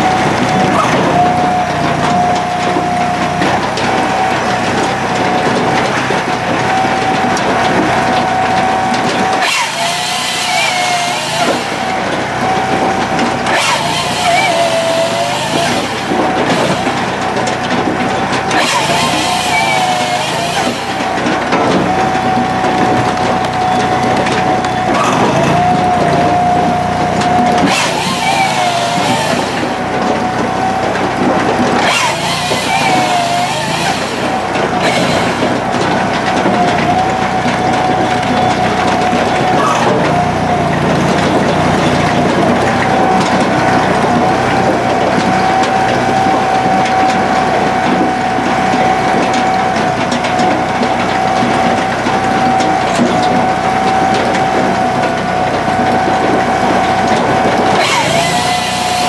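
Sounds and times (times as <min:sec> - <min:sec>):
hydraulic system humming: 0:00.0 - 0:59.0
saw cutting through log: 0:00.0 - 0:59.0.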